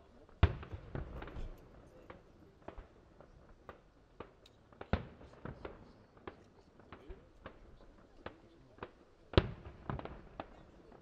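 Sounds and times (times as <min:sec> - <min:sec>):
fireworks bangs and pops: 0:00.3 - 0:11.0.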